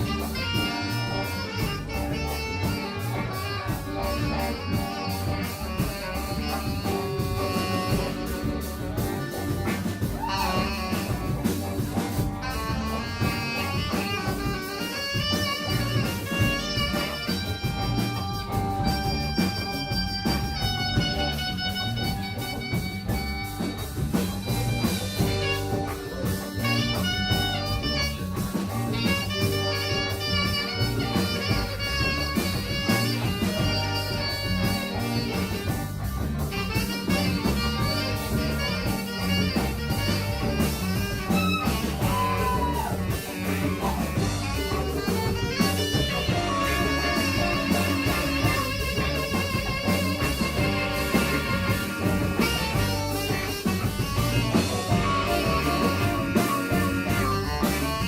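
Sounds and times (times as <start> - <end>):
drum kit beat: 0.0 - 58.0
electric guitar notes ringing: 0.0 - 58.0.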